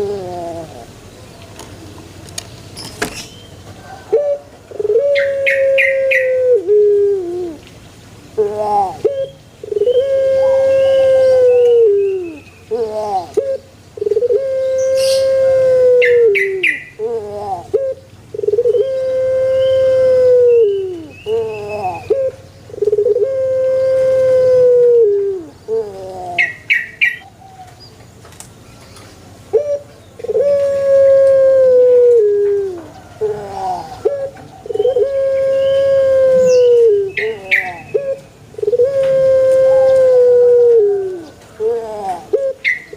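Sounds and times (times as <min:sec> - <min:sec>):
dove cooing: 0:00.0 - 0:01.0, 0:03.8 - 0:07.7, 0:08.3 - 0:27.8, 0:29.5 - 0:42.9.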